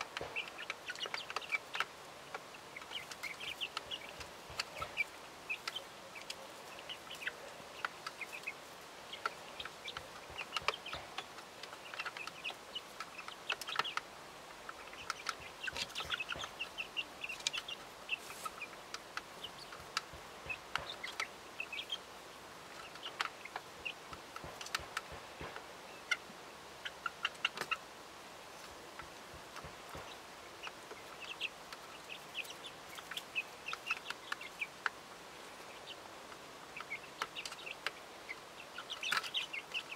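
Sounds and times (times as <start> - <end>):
beaks pecking on plastic tray: 0.0 - 22.0, 22.6 - 27.8, 28.6 - 39.9
hens clucking and peeping: 0.0 - 39.9.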